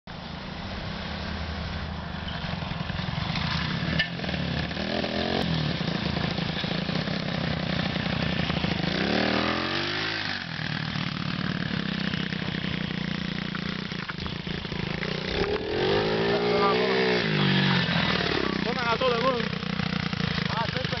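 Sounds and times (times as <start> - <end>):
pit bike engine revving: 2.4 - 21.0.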